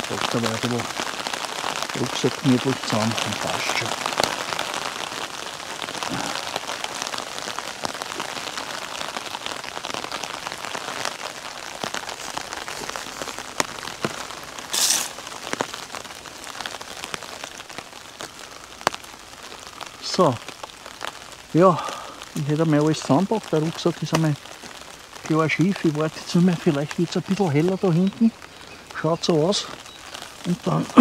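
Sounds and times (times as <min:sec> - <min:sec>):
hissing rustle: 0:00.0 - 0:31.0
rain on a tarp: 0:00.0 - 0:31.0.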